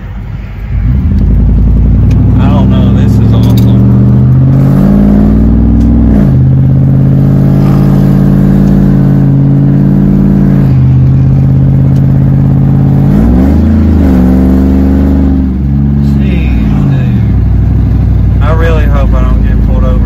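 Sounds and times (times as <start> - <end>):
truck exhaust droning: 0.0 - 20.0.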